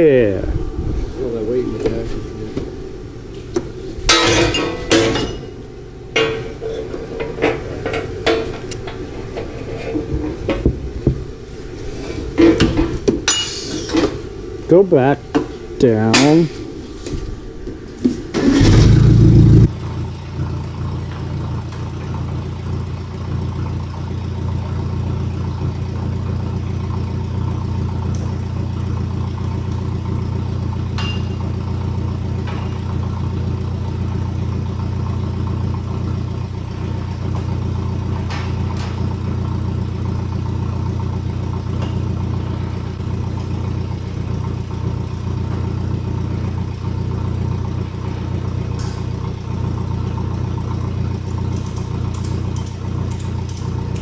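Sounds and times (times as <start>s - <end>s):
forklift engine starting and idling: 0.0s - 14.9s, 15.5s - 54.0s.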